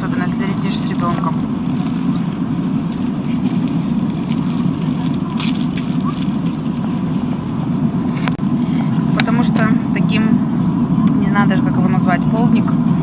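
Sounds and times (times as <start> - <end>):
jet airliner cabin drone: 0.0 - 13.0.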